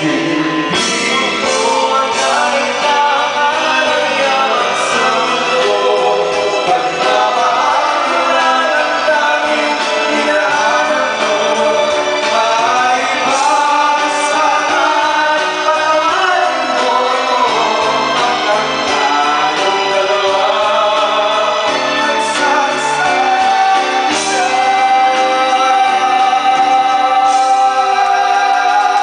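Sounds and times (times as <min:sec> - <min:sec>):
backing music: 0:00.0 - 0:29.0
duet singing a ballad: 0:00.0 - 0:29.0.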